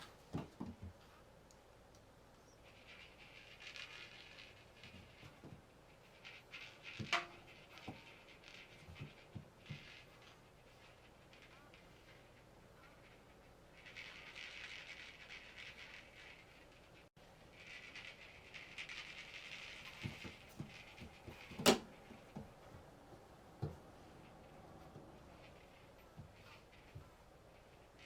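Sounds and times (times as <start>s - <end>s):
scratchy rustling: 2.4s - 28.0s.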